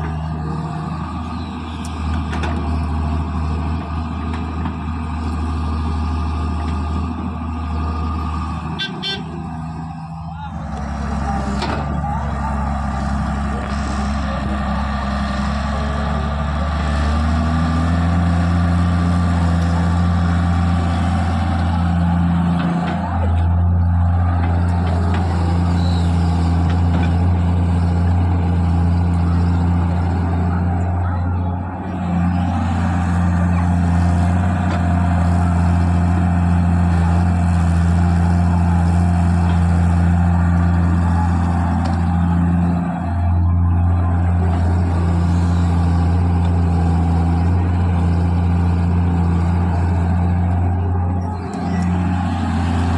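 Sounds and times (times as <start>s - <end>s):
diesel engine working: 0.0s - 52.9s.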